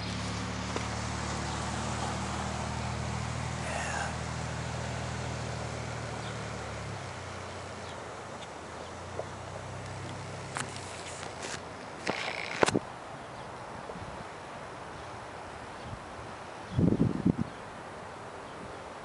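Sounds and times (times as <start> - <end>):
vehicle engine humming: 0.0 - 17.0
steady hiss: 0.0 - 19.0.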